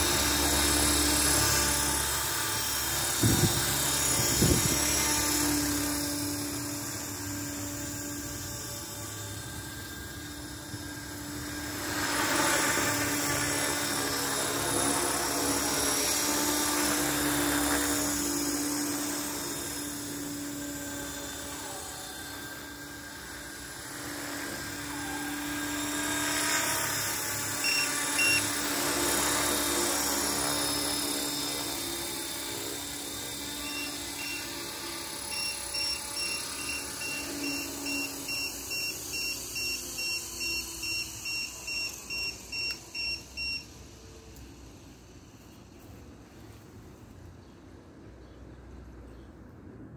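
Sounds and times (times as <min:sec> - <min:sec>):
rc helicopter motor whine: 0:00.0 - 0:48.2.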